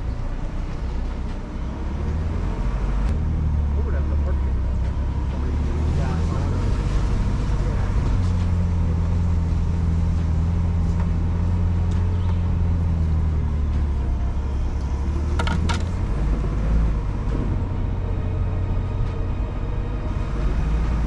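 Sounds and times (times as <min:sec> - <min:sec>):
low engine hum: 0:00.0 - 0:21.0
rumble: 0:00.0 - 0:21.0.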